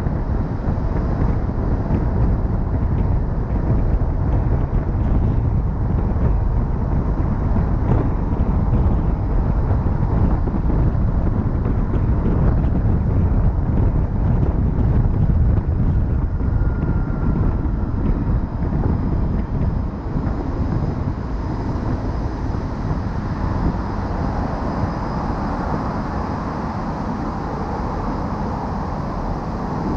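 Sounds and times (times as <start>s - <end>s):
road and tyre noise: 0.0s - 29.9s
wind buffeting microphone: 0.0s - 29.9s.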